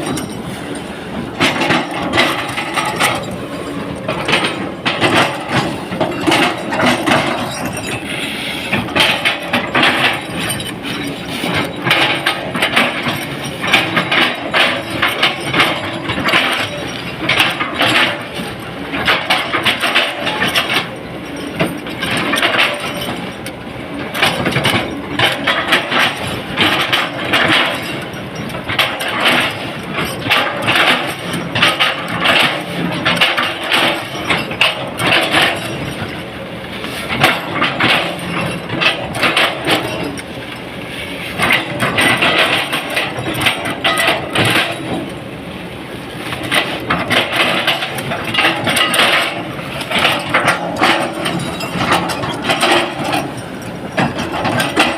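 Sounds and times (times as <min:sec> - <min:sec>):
clatter of metal and stone: 0:00.0 - 0:54.9
excavator engine running: 0:00.0 - 0:54.9.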